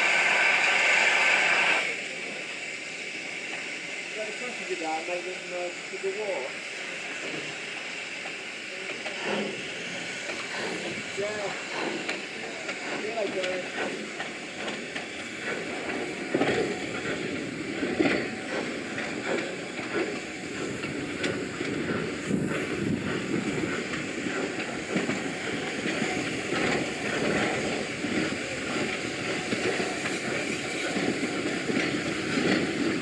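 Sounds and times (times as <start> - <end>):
steam hiss: 0.0 - 33.0
steam locomotive running slowly: 0.0 - 33.0.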